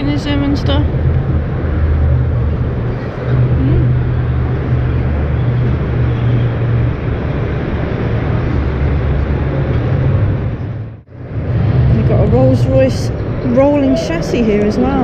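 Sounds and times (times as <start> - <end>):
low rumble: 0.0 - 6.0, 8.0 - 15.0.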